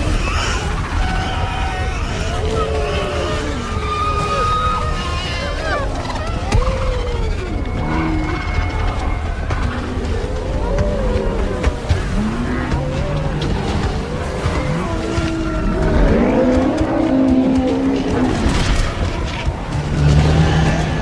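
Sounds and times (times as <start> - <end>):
overlapping animal calls: 0.0 - 18.5
rumble of running herd: 0.0 - 21.0.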